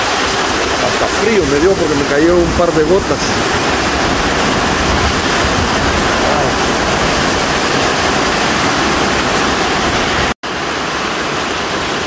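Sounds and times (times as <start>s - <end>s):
rain on a metal roof: 0.0s - 12.0s.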